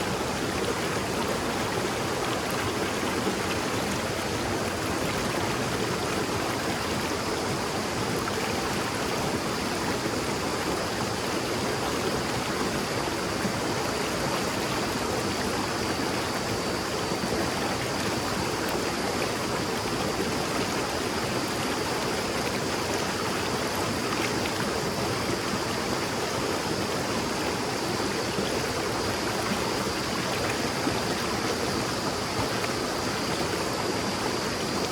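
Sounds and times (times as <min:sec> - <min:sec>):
stream babbling: 0:00.0 - 0:34.9.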